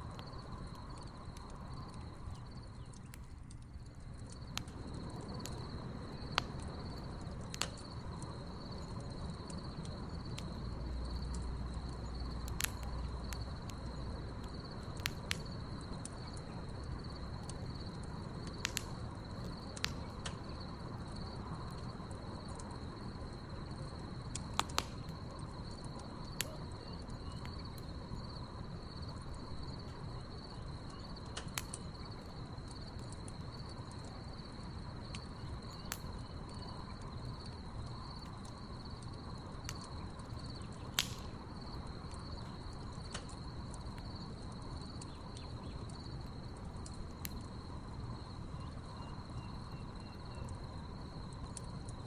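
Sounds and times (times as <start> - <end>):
crickets chirping: 0.0 - 52.0
wood fire crackling and popping: 0.0 - 52.0.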